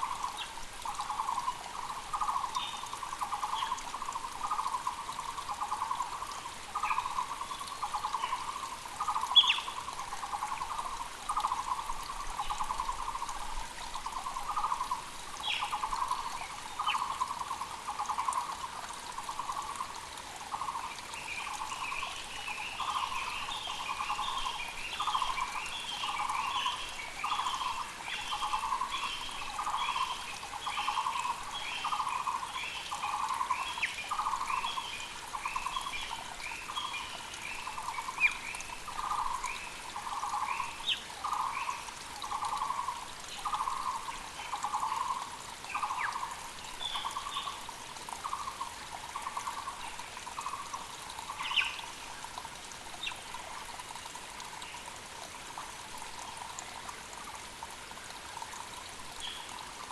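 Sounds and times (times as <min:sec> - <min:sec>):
mountain creek rushing: 0:00.0 - 0:59.9.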